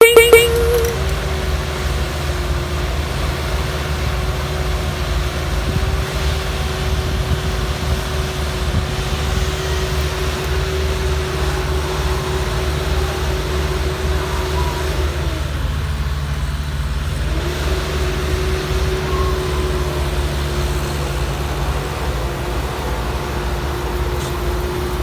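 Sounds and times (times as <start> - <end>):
heavy machine engine rumbling: 0.0 - 25.0
steady engine whine: 0.0 - 25.0.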